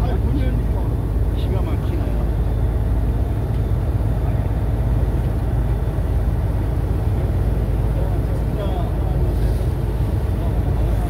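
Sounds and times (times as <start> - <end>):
boat engine droning: 0.0 - 11.0
water rushing along hull: 0.0 - 11.0.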